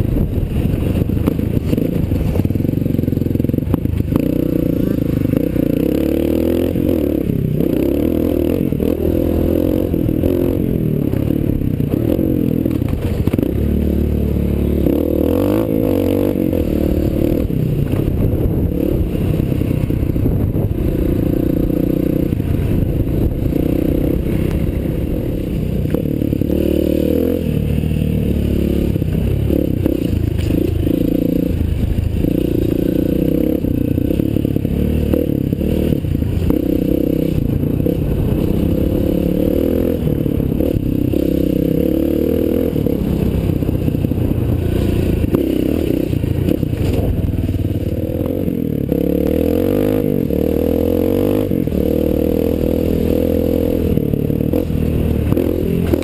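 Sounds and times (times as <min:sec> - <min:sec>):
dirt bike engine revving: 0:00.6 - 0:56.0.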